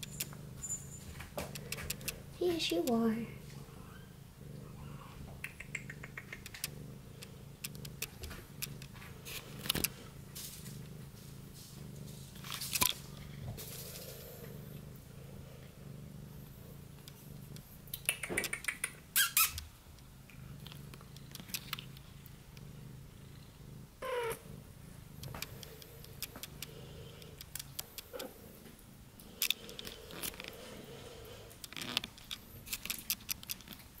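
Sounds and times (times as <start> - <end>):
soft clicks and rustles: 0.0 - 3.6, 5.2 - 14.8, 17.0 - 22.7, 25.2 - 30.9, 31.5 - 34.0
cat purring: 0.0 - 34.0.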